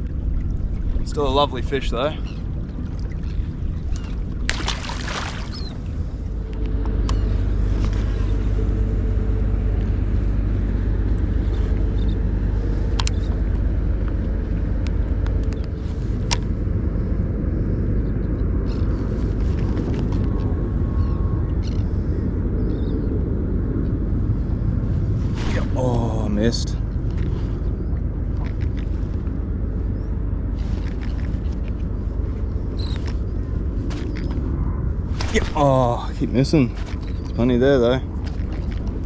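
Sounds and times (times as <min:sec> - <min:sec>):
boat engine rumbling: 0:00.0 - 0:39.0.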